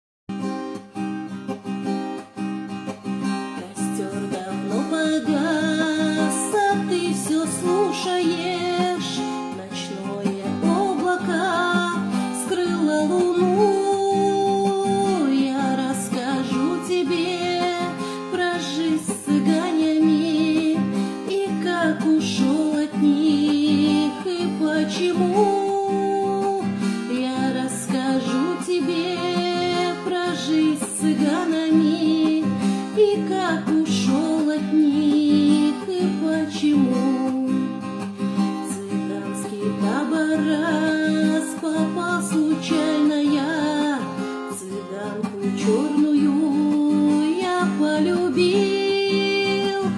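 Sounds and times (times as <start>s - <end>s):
acoustic guitar strumming: 0.3s - 49.9s
woman singing slow melody: 3.5s - 49.9s.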